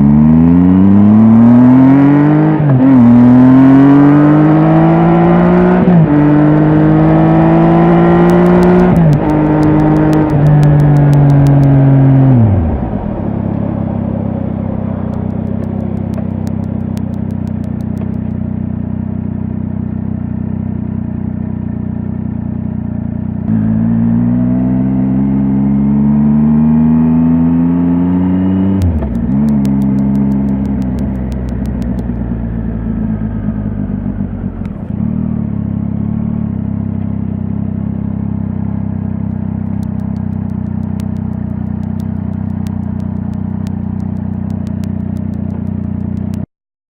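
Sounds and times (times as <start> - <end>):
motorcycle engine revving: 0.0 - 46.5.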